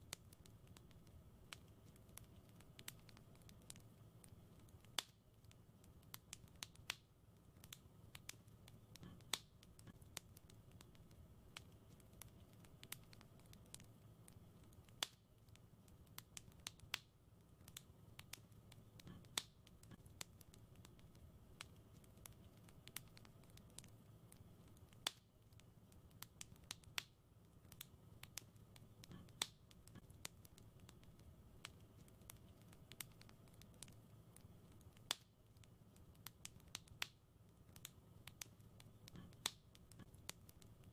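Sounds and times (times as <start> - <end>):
faint low rumble: 0.0 - 40.9
wood fire crackling: 0.0 - 40.9.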